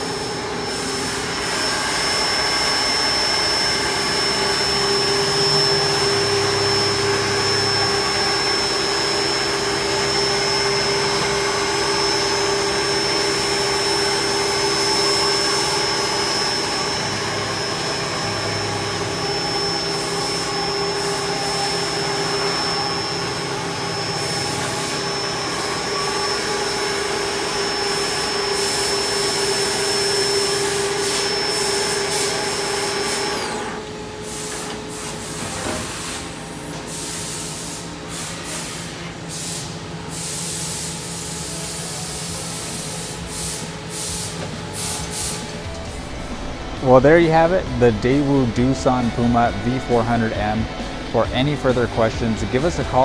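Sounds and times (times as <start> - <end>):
lathe mechanical hum: 0.0 - 53.0
lathe whine tones: 0.0 - 53.0.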